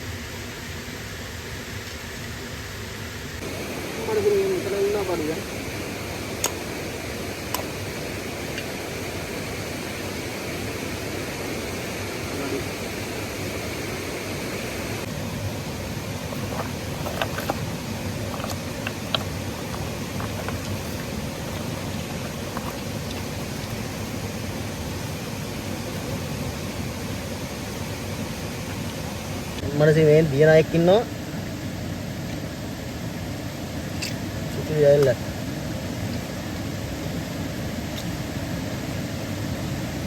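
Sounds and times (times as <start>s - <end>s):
stream water flowing: 0.0s - 40.0s.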